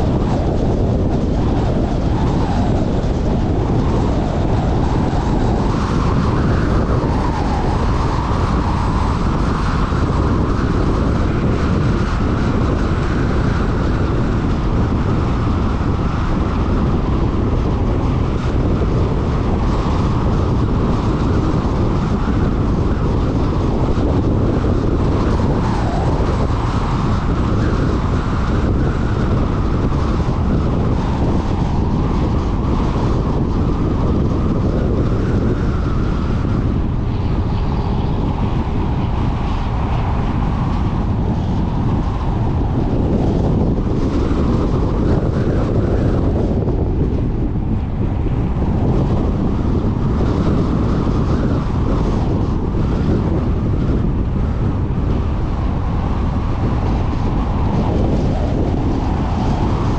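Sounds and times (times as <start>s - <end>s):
tyre and wind noise: 0.0s - 59.9s.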